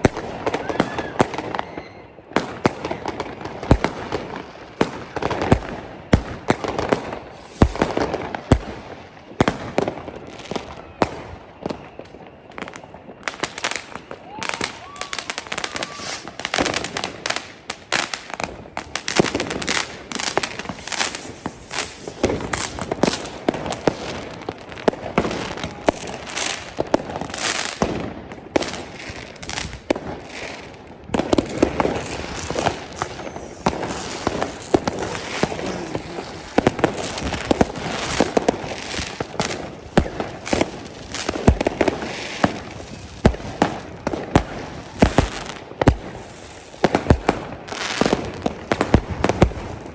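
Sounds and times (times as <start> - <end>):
deep firework booms: 0.0 - 11.9, 13.9 - 49.9
fireworks bangs and crackles: 0.0 - 49.9.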